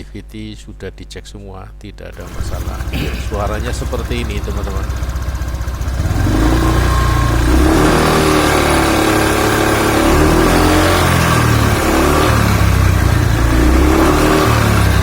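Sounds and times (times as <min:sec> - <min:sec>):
scooter engine revving: 0:02.1 - 0:15.0
deep growling rumble: 0:02.2 - 0:15.0.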